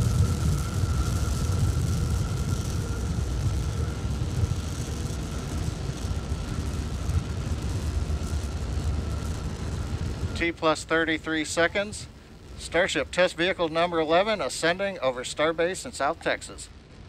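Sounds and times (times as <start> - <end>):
rocket engines rumbling: 0.0 - 17.0.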